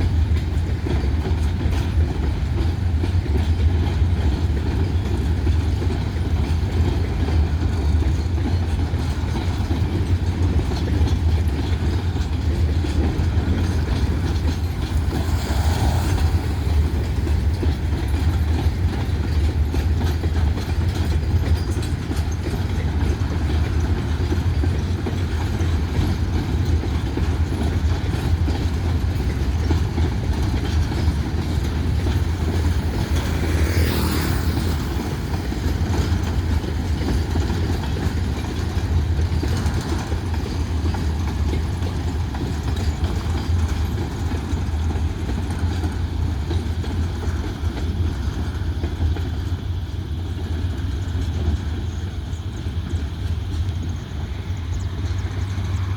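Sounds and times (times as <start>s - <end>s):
train low rumble: 0.0s - 55.9s
train wheels clacking over rail joints: 0.0s - 55.9s.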